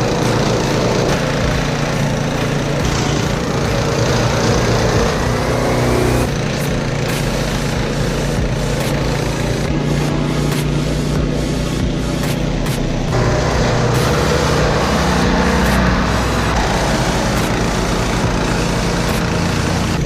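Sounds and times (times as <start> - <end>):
snowblower running: 0.0 - 20.0.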